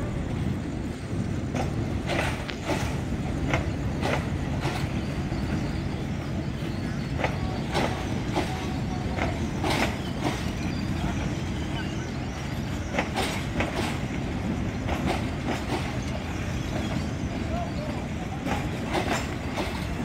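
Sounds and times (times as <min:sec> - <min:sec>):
train rumbling: 0:00.0 - 0:20.0
wheels clacking over rail joints: 0:00.0 - 0:20.0.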